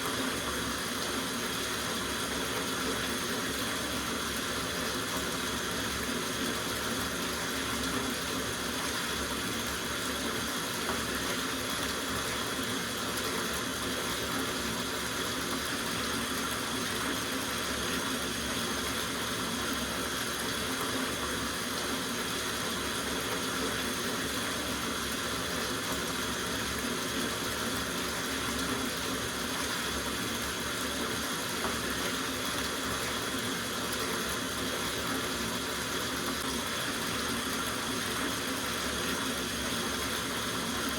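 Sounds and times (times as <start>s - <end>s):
tap water running into bathtub: 0.0s - 40.9s.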